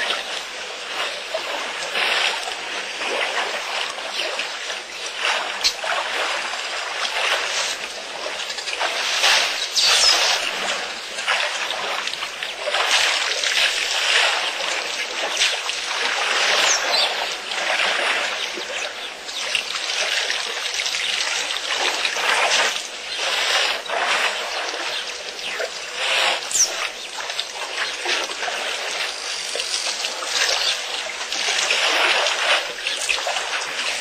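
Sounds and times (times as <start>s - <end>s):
elephants splashing in water: 0.0s - 34.0s.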